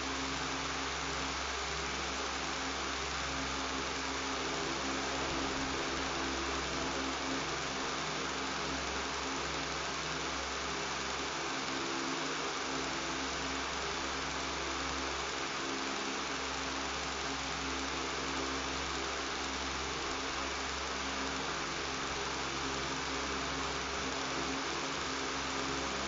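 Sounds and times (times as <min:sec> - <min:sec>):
electric fan running: 0:00.0 - 0:26.0.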